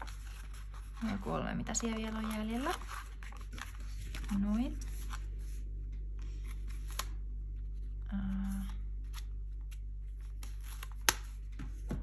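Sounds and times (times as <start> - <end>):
paper pages rustling: 0.0 - 11.9
steady low hum: 0.0 - 12.0.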